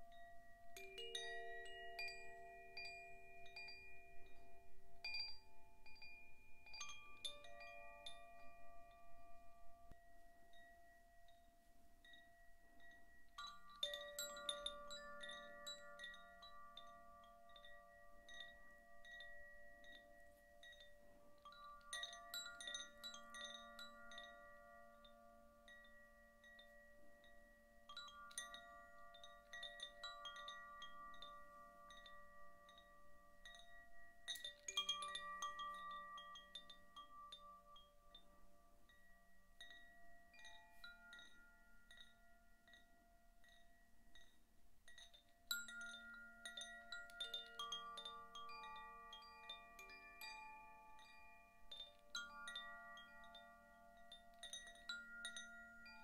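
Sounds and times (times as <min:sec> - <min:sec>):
wind chime tones ringing: 0:00.0 - 0:56.0.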